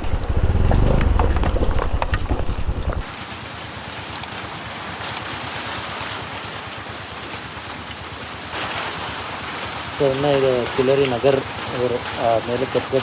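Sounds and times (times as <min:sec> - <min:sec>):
heavy rain falling: 0:00.0 - 0:13.0
motorcycle engine running: 0:00.0 - 0:13.0.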